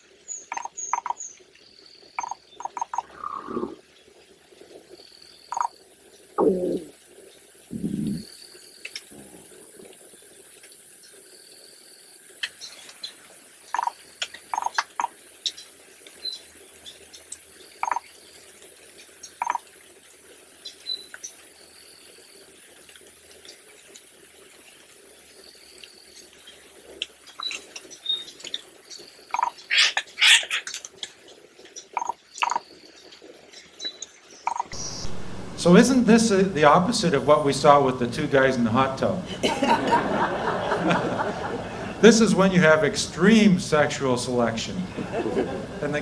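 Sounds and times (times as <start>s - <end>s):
steady high hiss: 0.0s - 46.0s.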